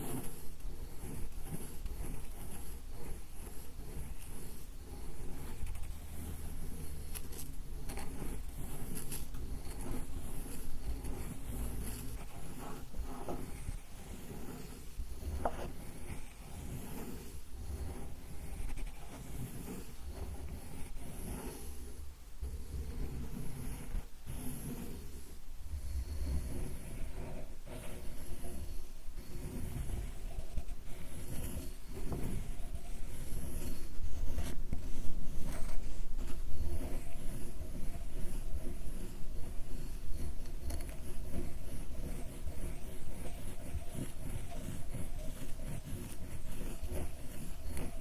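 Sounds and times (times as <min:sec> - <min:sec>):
ink stick scraping on stone: 0:00.0 - 0:48.0.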